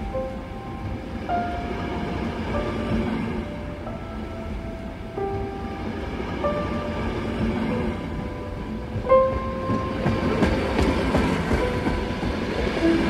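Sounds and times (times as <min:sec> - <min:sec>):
train wheels rumbling and clattering: 0:00.0 - 0:13.0.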